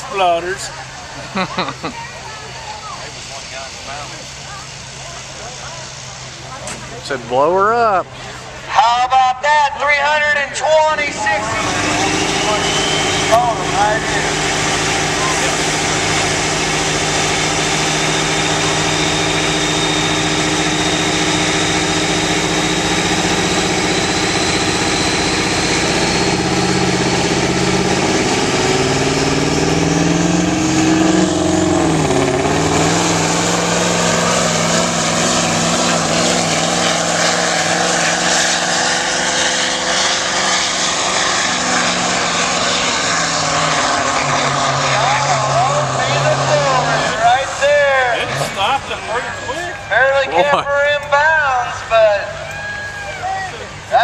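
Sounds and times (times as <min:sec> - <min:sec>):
truck diesel engine under load: 0:00.0 - 0:54.0.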